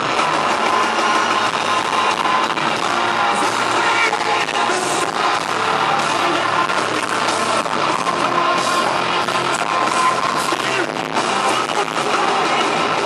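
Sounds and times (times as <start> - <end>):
hard rock band playing live: 0.0 - 13.0.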